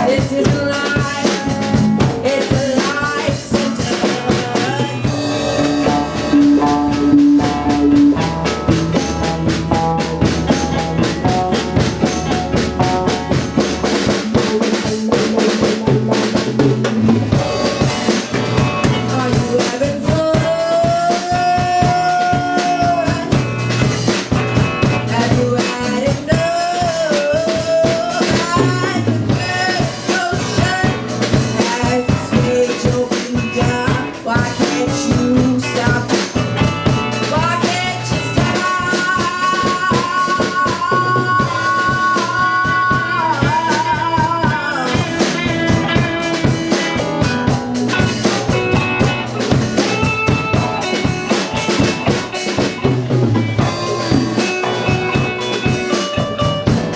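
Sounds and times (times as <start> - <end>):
rock band playing: 0.0 - 56.9.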